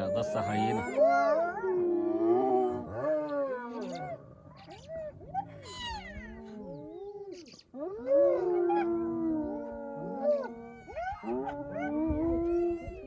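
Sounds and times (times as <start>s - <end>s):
hyenas wailing in chorus: 0.0s - 13.0s.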